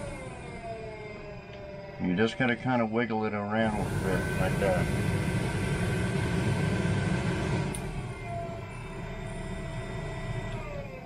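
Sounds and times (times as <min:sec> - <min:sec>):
blower fan motor whine: 0:00.0 - 0:11.0.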